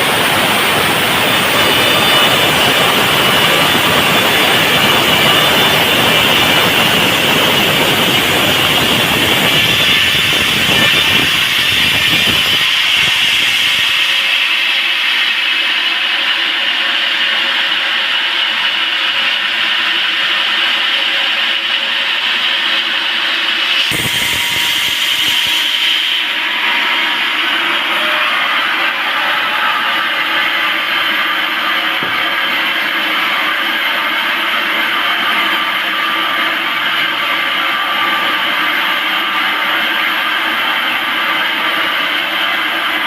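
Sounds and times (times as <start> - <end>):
sawmill saw cutting log: 0.0 - 15.5, 23.6 - 43.0
high-pitched saw whine: 0.0 - 43.0.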